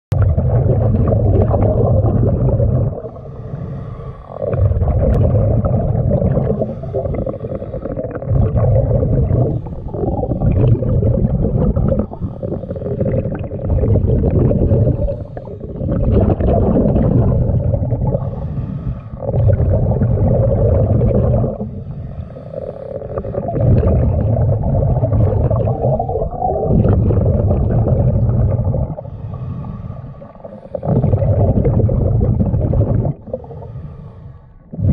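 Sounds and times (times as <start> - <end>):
diver breathing underwater: 0.2 - 34.9.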